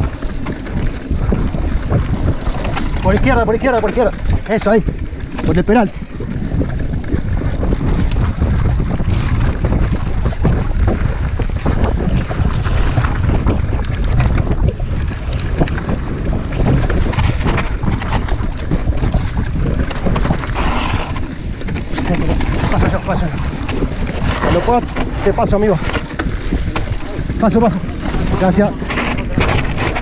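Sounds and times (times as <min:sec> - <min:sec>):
bike rattling and knocking: 0:00.0 - 0:30.0
wind buffeting microphone: 0:00.0 - 0:30.0.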